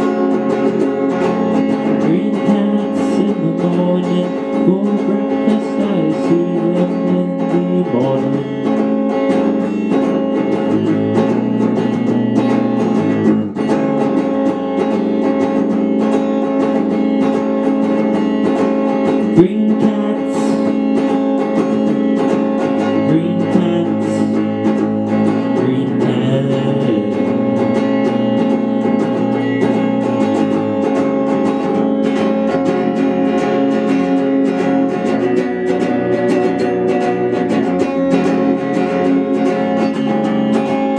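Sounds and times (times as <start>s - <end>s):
electric guitar through amplifier: 0.0s - 40.9s.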